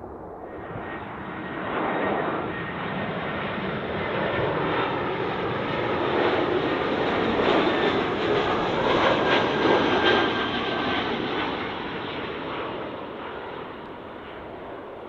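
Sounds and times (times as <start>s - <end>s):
jet airliner engine rumble: 0.0s - 15.0s.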